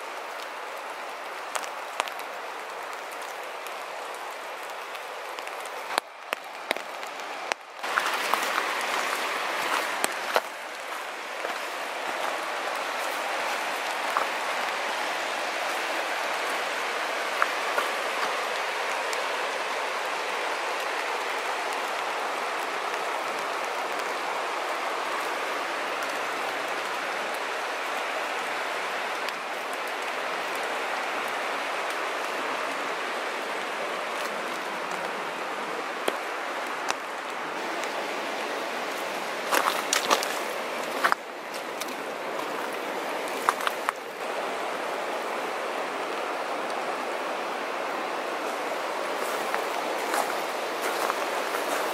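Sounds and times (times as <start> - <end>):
footsteps on wet trail: 0.0 - 51.9.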